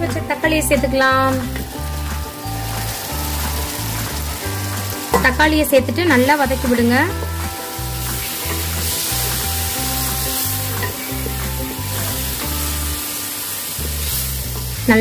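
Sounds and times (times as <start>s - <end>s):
background music: 0.0s - 15.0s
vegetables sizzling in hot oil: 0.0s - 15.0s.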